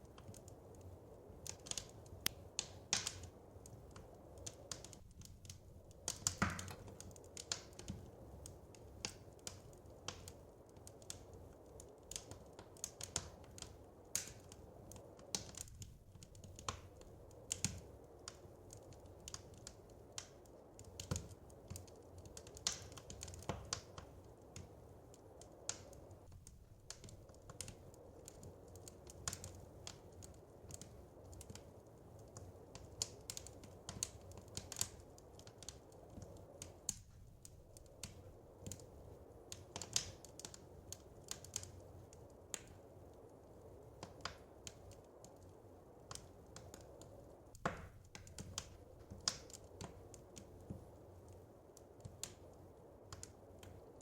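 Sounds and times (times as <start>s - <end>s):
low fire rumble: 0.0s - 54.0s
wood fire popping and snapping: 0.0s - 54.0s.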